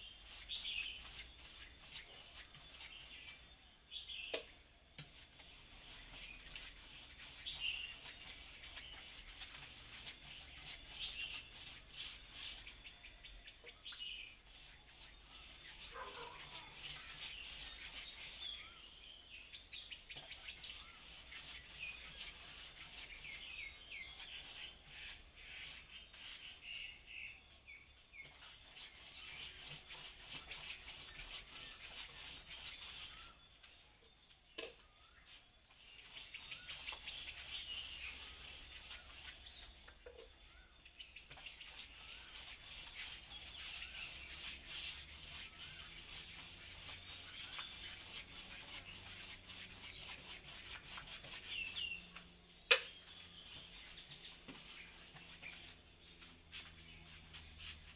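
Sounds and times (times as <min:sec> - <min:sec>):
songbirds chirping: 0:00.0 - 0:57.9.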